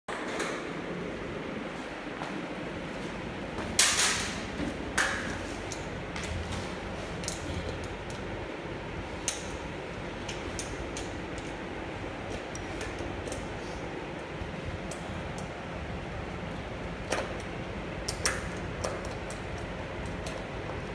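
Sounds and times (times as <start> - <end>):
steady background hum: 0.1 - 20.9.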